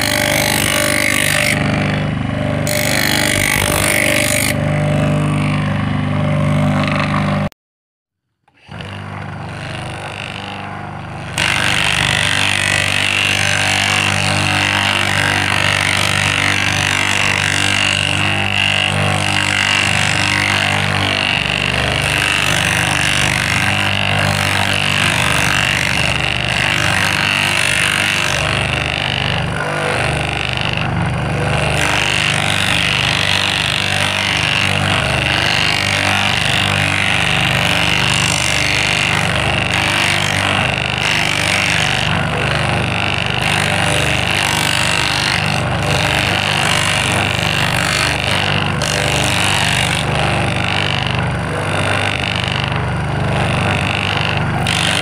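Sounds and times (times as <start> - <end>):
small electric motor whining: 0.0 - 7.5, 8.5 - 55.0.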